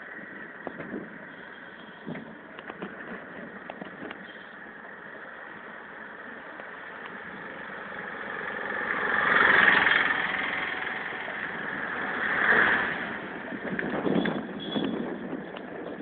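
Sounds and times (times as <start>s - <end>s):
motor vehicles passing: 0.0s - 16.0s.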